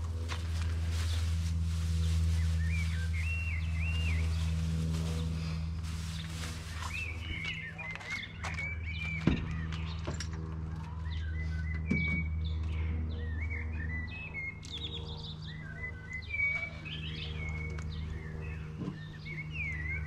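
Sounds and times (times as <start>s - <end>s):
low mechanical hum: 0.0s - 20.0s
small birds chirping: 2.0s - 20.0s.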